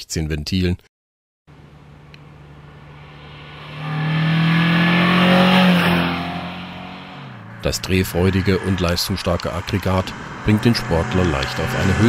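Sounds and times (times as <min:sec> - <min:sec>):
car engine driving past: 0:01.9 - 0:12.0.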